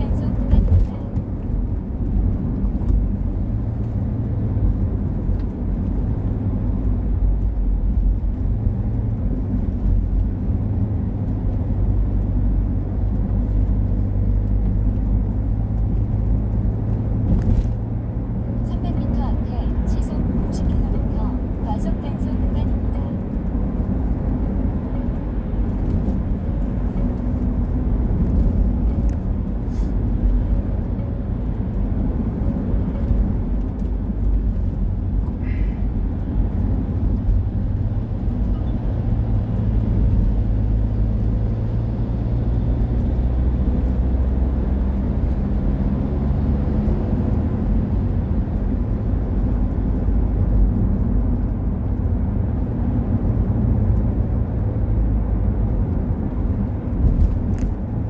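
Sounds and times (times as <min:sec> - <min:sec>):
car engine rumble: 0:00.0 - 0:58.0
tyre noise on road: 0:00.0 - 0:58.0.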